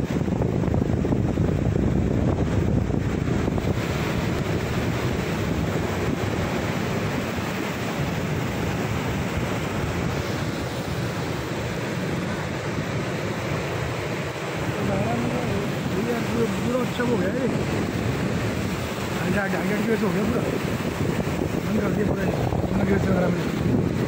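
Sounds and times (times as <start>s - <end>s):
surf breaking on rocks: 0.0s - 24.0s
wind buffeting microphone: 0.0s - 24.0s.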